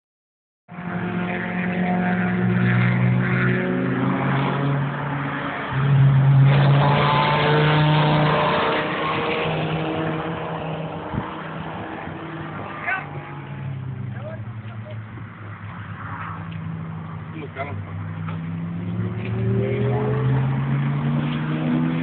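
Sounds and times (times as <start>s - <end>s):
car engine changing gears: 1.0s - 22.0s.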